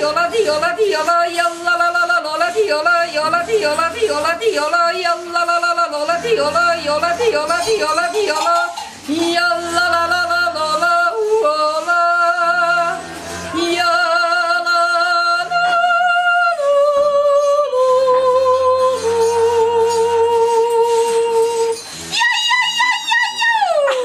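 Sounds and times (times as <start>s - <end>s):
woman yodeling: 0.0s - 24.0s.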